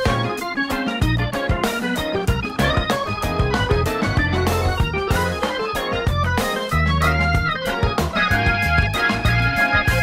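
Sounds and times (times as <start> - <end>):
bass line: 0.0 - 10.0
drums: 0.0 - 10.0
organ solo: 0.0 - 10.0.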